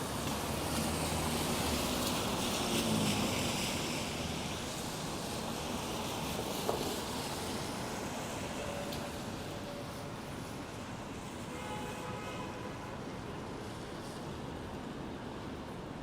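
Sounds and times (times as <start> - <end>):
traffic on wet road: 0.0 - 16.0.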